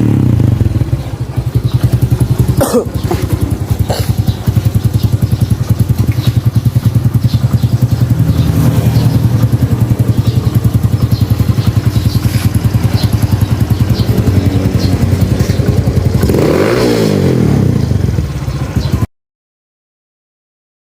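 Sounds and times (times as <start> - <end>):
motorcycle engine idling and revving: 0.0 - 19.1.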